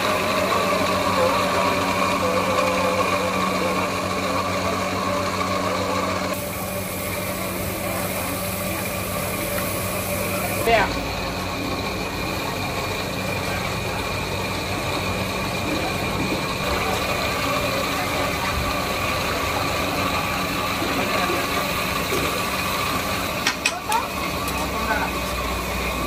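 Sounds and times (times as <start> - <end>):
small motor humming: 0.0 - 26.0.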